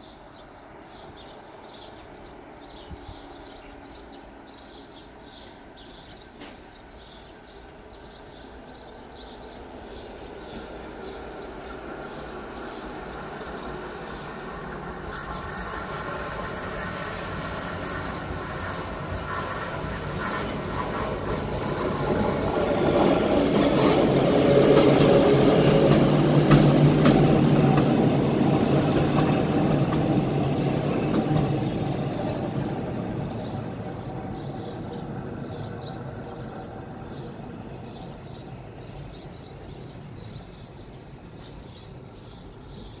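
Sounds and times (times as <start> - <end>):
train passing rumble: 0.0 - 43.0.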